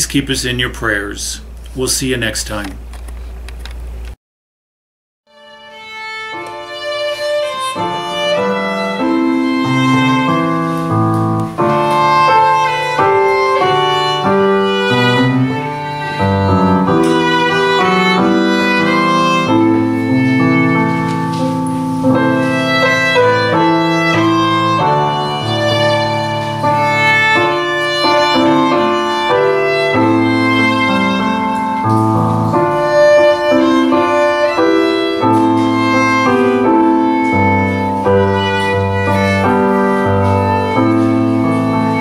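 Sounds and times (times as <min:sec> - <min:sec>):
piano accompaniment: 0:05.3 - 0:42.0
violin melody: 0:05.3 - 0:42.0.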